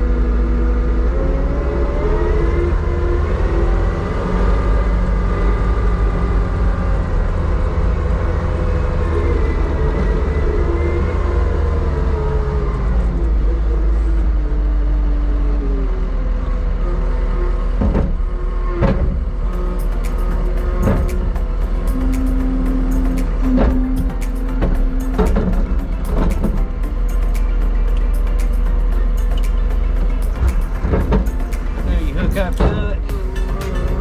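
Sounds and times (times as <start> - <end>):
heavy machinery rumbling: 0.0 - 34.0.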